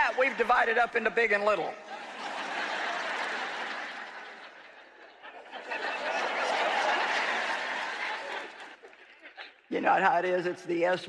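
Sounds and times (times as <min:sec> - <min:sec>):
audience laughing: 0:00.0 - 0:01.0, 0:01.8 - 0:09.7.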